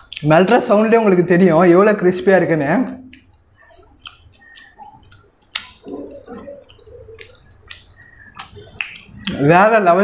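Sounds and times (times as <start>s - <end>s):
mouth clicks: 0.0s - 1.0s, 2.2s - 9.8s
person chewing crispy bread: 0.0s - 1.1s, 2.2s - 9.5s.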